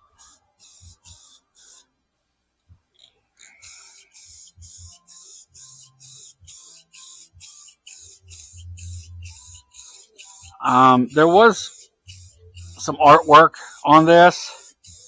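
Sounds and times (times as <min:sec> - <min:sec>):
spray paint can hissing in bursts: 0:00.0 - 0:01.9, 0:03.4 - 0:15.0.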